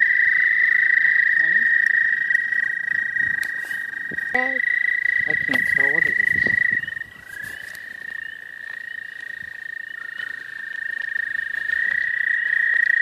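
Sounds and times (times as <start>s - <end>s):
toads trilling: 0.0s - 13.0s.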